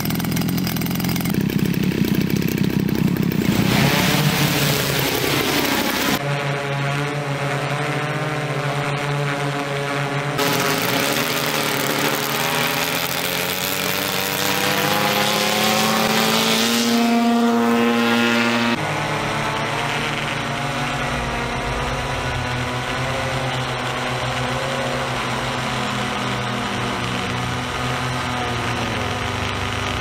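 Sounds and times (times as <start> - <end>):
drone propellers whirring: 0.2 - 30.0.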